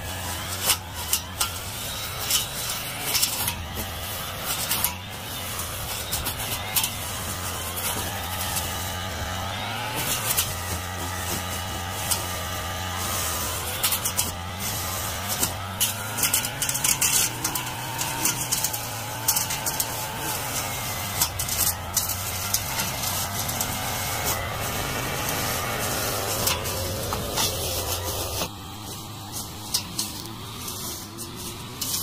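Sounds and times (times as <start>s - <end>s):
brush cutter engine running: 0.0s - 32.0s.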